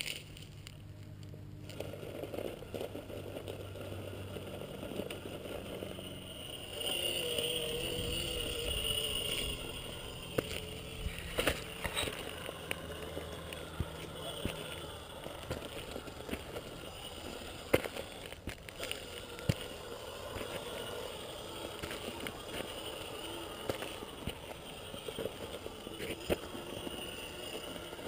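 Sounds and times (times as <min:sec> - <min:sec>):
toy truck motor whining: 0:00.0 - 0:28.0
tyres scraping on rock: 0:00.0 - 0:28.0.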